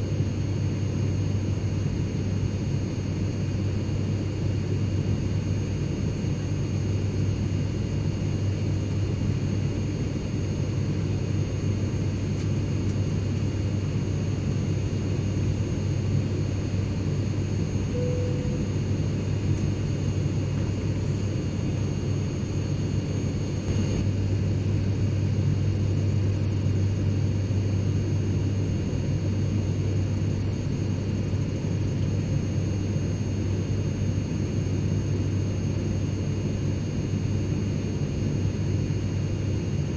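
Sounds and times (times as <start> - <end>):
high turbine whine: 0.0 - 39.8
engine and airflow rumble: 0.0 - 39.9.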